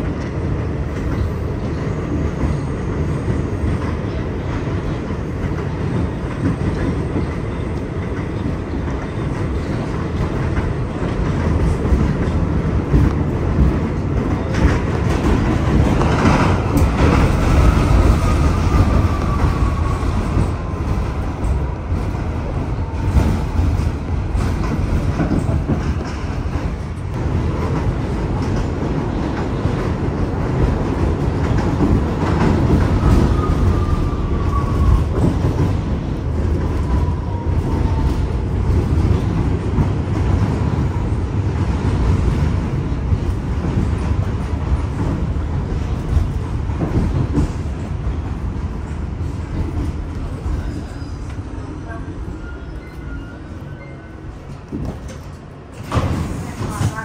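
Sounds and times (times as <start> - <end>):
subway train rumbling on rails: 0.0 - 57.0.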